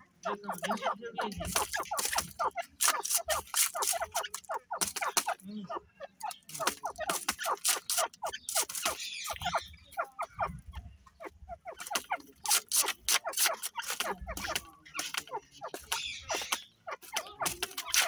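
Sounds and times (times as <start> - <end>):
francolins calling: 0.0 - 18.0.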